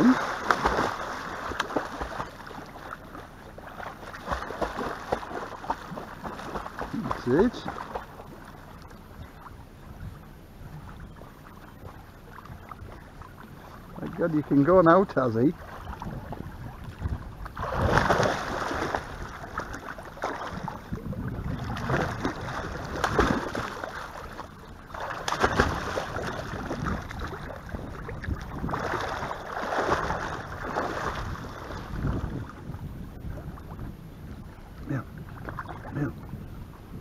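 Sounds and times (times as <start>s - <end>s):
water splashing from swimming dogs: 0.0s - 32.7s.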